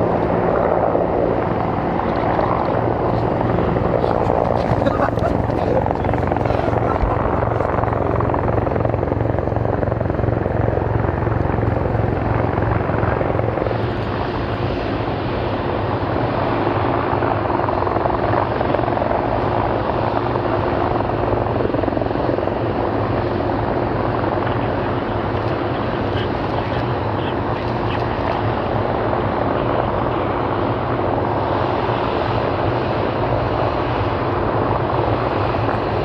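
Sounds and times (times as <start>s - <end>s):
helicopter turbine and rotor: 0.0s - 36.0s.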